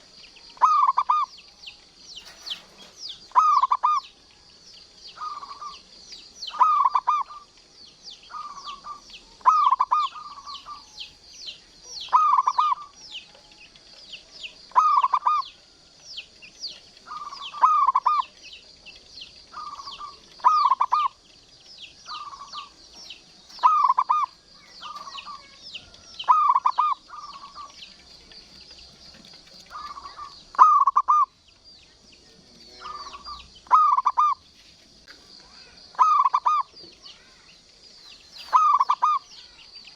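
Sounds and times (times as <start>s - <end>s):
dove cooing: 0.0s - 4.2s, 5.2s - 7.6s, 8.3s - 11.1s, 11.8s - 16.0s, 16.7s - 31.4s, 32.3s - 34.4s, 35.5s - 39.9s
high-pitched chirping: 5.0s - 34.6s, 35.3s - 39.9s.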